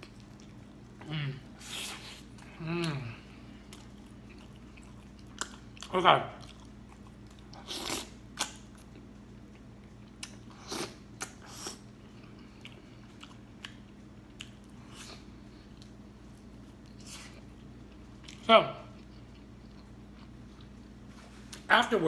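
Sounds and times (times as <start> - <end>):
chewing mouth sounds: 0.0 - 1.0, 1.6 - 20.8
faint low hum: 0.0 - 22.0.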